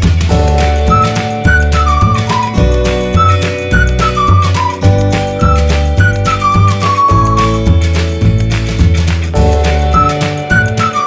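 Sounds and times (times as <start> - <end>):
deep bass: 0.0 - 11.0
regular beat: 0.0 - 11.0
steady chords: 0.0 - 11.0
flute-like melody: 0.3 - 8.0, 9.4 - 11.0.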